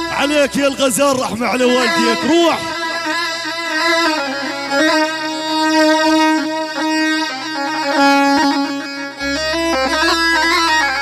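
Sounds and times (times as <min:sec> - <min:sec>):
folk melody on bowed string: 0:00.0 - 0:11.0.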